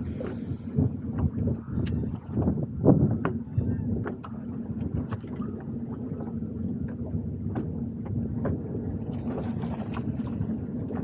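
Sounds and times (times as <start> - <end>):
waves slapping boat hull: 0.0 - 11.0
wind buffeting microphone: 0.0 - 11.0.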